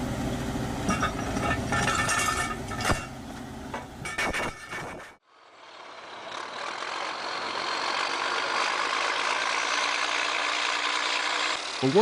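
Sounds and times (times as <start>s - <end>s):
heavy diesel machinery engine: 0.0s - 4.2s, 5.2s - 12.0s.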